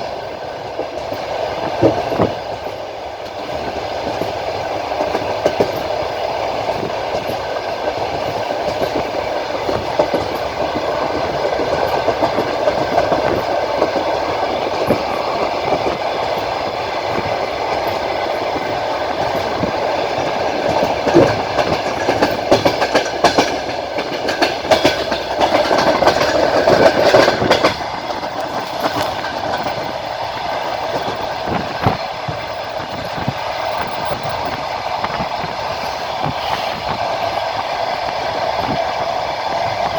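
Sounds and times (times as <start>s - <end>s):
train carriages rumbling: 0.0s - 39.9s
train wheels clattering over rails: 0.0s - 39.9s.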